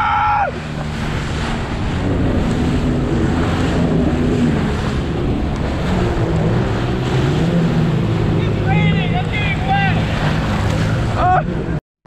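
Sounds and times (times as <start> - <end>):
jet ski engine running: 0.0 - 11.8
wind buffeting microphone: 0.0 - 11.8.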